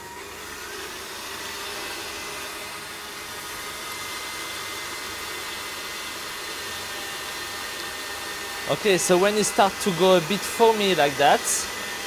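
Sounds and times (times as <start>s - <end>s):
stand mixer motor whirring: 0.0s - 12.0s.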